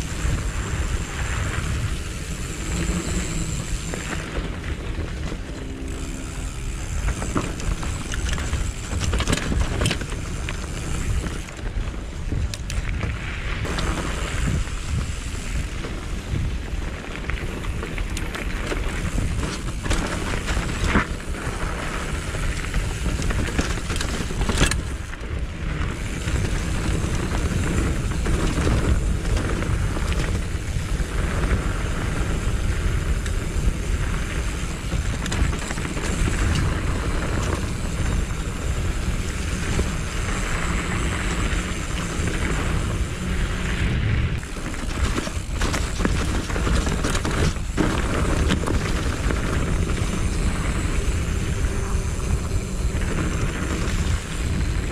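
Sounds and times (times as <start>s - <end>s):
bike knocks and rattles: 0.0s - 54.9s
bike tyre noise on dirt: 0.0s - 54.9s
wind rumble: 0.0s - 54.9s.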